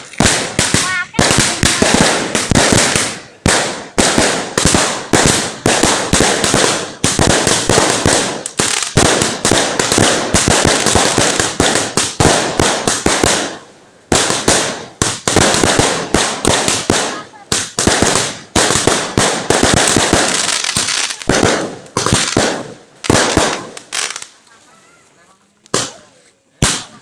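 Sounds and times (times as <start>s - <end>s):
fireworks cracking: 0.0s - 27.0s.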